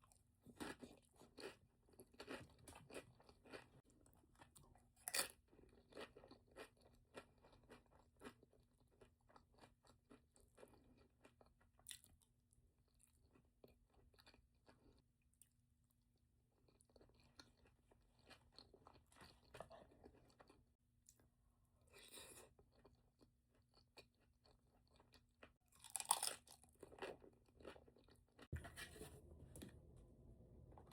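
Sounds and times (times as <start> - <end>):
person chewing and crunching food: 0.0 - 29.9.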